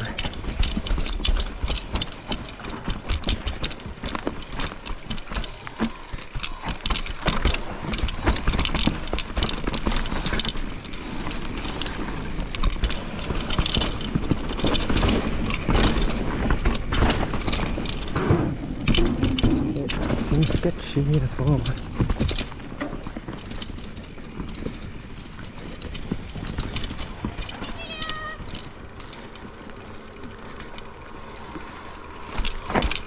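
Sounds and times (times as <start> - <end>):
bike tyres rolling and skidding: 0.0 - 33.0
chain and frame rattling: 0.0 - 33.0.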